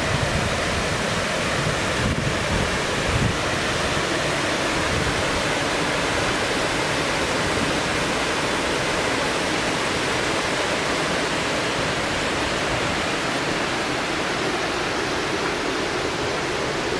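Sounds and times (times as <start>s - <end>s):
water rushing over a weir: 0.0s - 16.9s.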